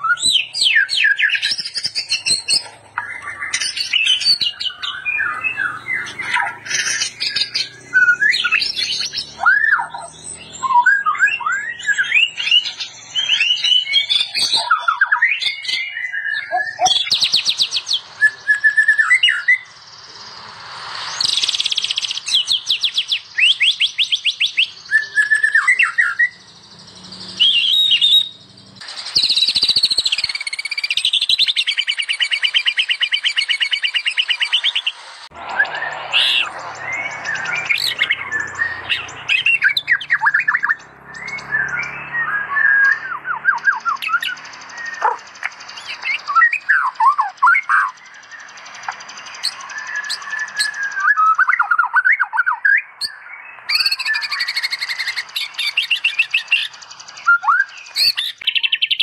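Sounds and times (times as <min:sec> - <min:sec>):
songbird singing varied song: 0:00.0 - 0:59.0.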